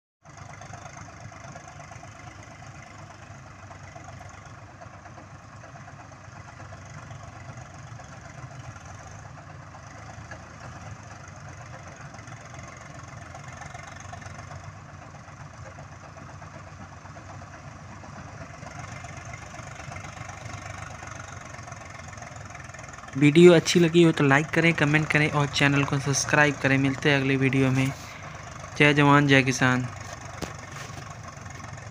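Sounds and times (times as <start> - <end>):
tractor diesel engines running: 0.2 - 31.9.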